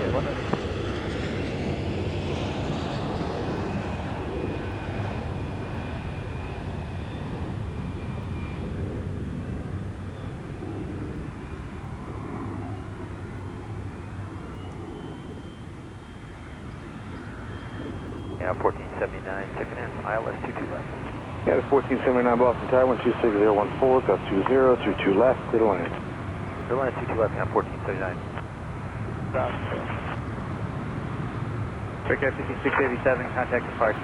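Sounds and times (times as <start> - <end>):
faint whining tones: 0.0 - 34.0
jet airliner engines rushing: 0.0 - 34.0.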